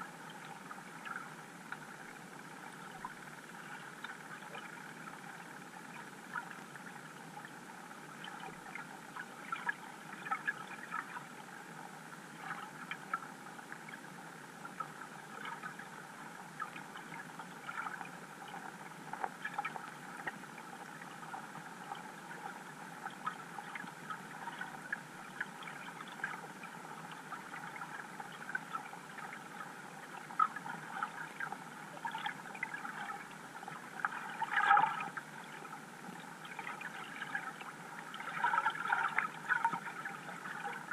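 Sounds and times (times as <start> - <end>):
faint clicks and ticks: 0.0 - 40.9
muffled underwater hiss: 0.0 - 40.9.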